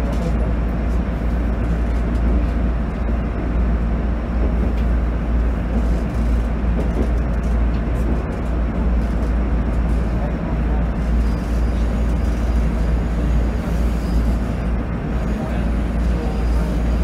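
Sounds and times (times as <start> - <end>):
railcar engine rumble: 0.0 - 17.0
wheels on rails: 0.0 - 17.0.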